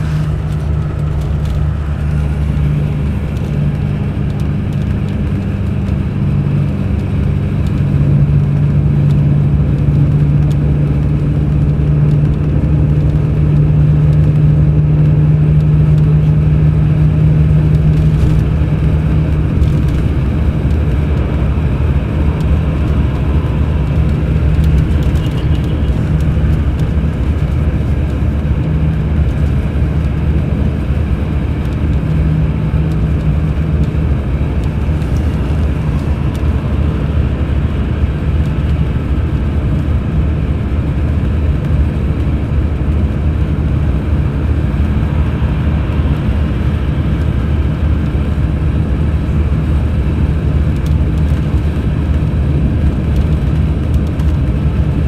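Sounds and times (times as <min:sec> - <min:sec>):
coach diesel engine running: 0:00.0 - 0:55.0.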